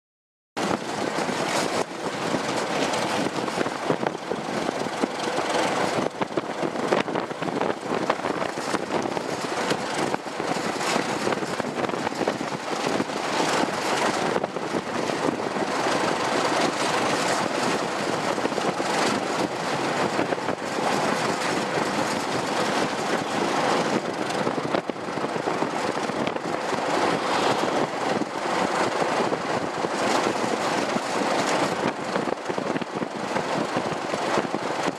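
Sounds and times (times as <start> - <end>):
diesel train running: 0.6 - 34.9.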